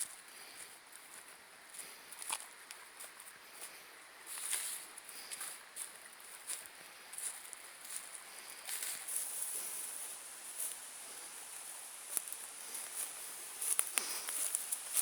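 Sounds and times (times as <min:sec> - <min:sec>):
light footsteps: 0:00.5 - 0:15.0.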